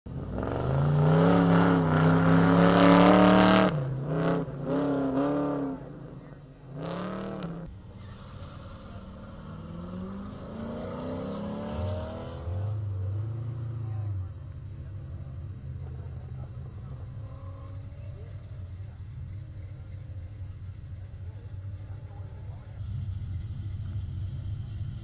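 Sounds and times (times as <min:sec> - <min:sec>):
car engine revving: 0:00.1 - 0:25.0
faint engine rising in pitch: 0:00.1 - 0:25.0.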